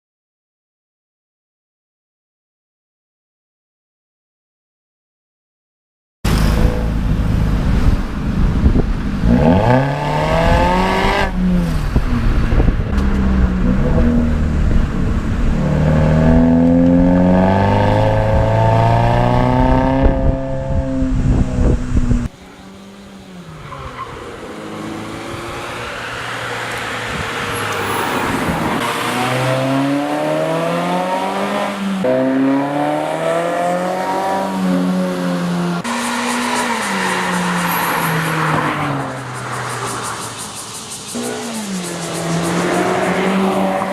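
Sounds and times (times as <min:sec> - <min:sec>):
car engine accelerating hard: 0:06.3 - 0:40.5, 0:41.1 - 0:43.9.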